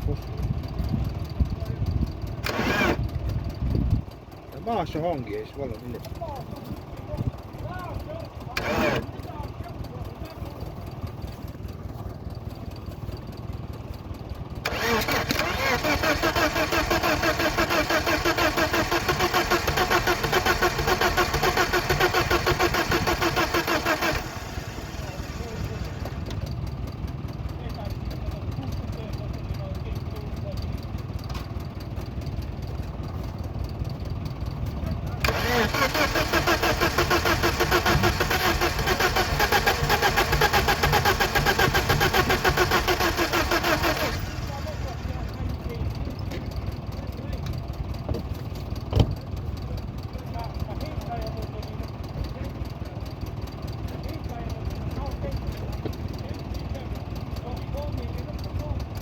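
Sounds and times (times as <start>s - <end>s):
starter motor cranking engine: 0.0s - 59.0s.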